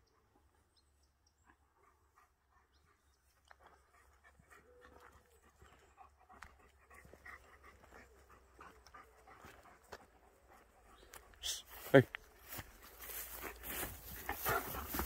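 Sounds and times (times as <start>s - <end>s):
dog panting: 1.5s - 11.6s, 12.2s - 15.0s.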